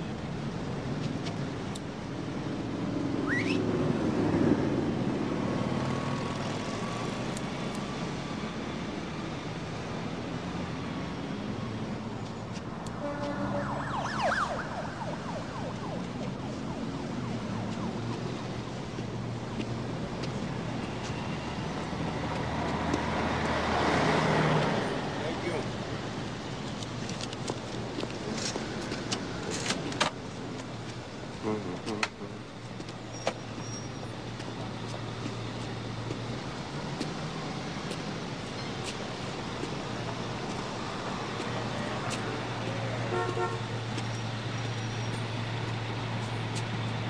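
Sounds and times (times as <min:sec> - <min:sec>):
city street traffic: 0:00.0 - 0:47.0.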